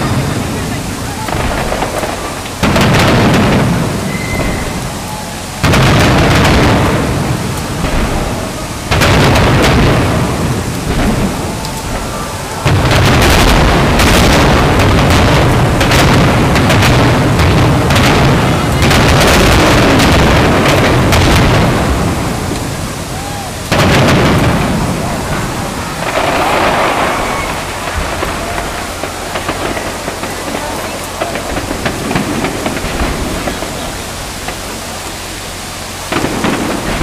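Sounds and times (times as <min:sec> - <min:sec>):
fireworks booms and crackles: 0:00.0 - 0:37.0.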